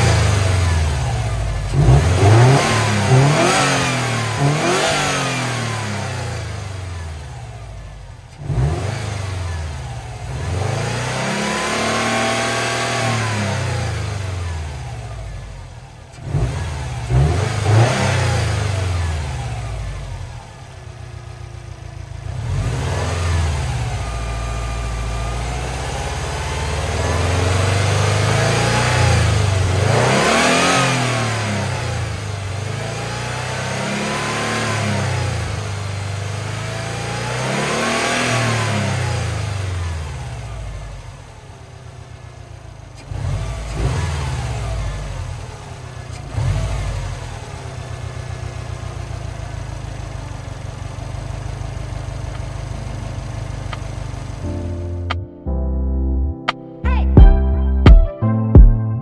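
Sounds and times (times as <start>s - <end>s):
engine throttle blips: 0.0s - 35.9s, 36.5s - 55.2s
car engine revving: 0.0s - 55.1s.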